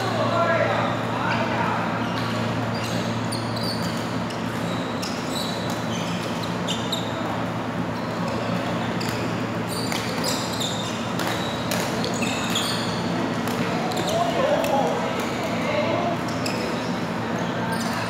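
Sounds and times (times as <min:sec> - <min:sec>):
shoes squeaking on court floor: 0:00.1 - 0:18.0.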